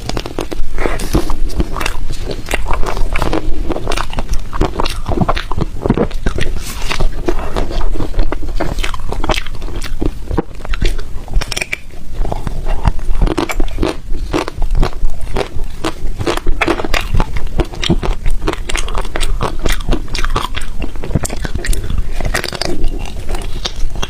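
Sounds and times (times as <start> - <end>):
person chewing crunchy ice: 0.0 - 24.0.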